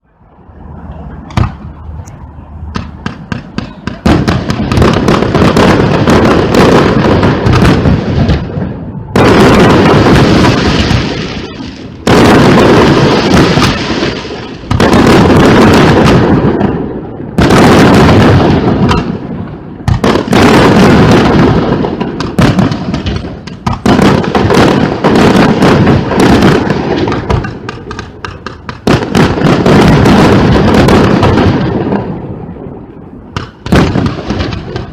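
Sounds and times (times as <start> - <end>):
fireworks bursts and crackle: 0.8 - 34.9.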